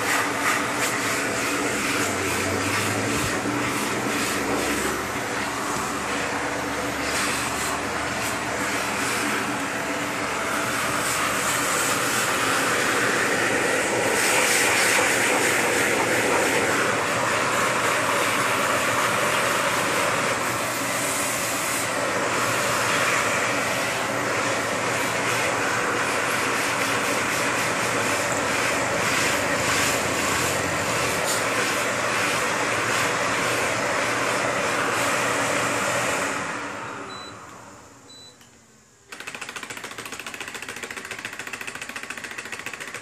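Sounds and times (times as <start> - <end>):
vacuum cleaner running: 0.0 - 38.3.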